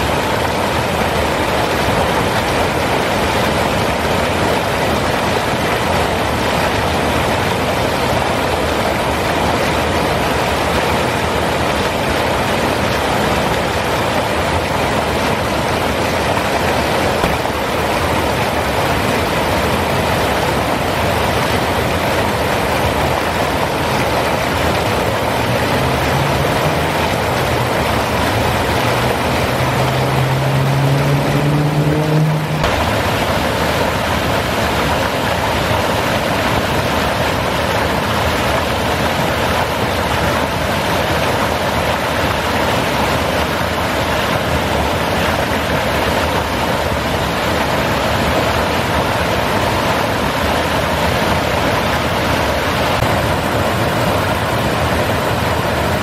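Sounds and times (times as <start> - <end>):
water rushing over spillway: 0.0 - 56.0.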